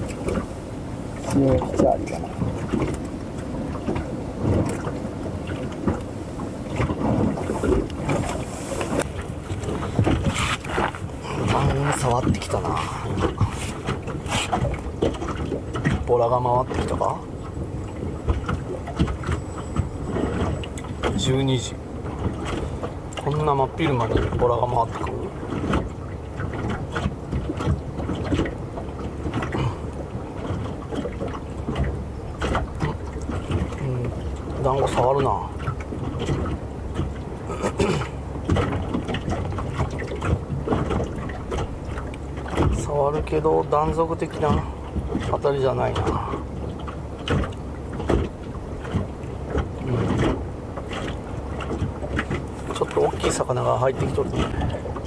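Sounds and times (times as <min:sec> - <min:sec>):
knocks and splashes: 0:00.0 - 0:55.0
water lapping against boat hull: 0:00.0 - 0:55.0
wind rumbling on microphone: 0:00.0 - 0:55.0.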